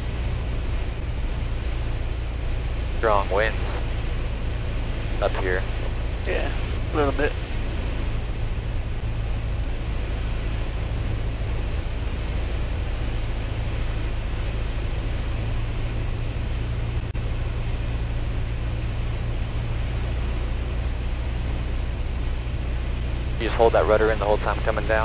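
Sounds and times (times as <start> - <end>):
airplane engine and propeller droning: 0.0 - 25.0.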